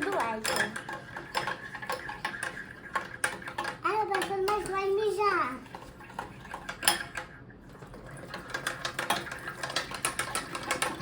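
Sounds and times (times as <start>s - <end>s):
slime being stirred: 0.0s - 11.0s.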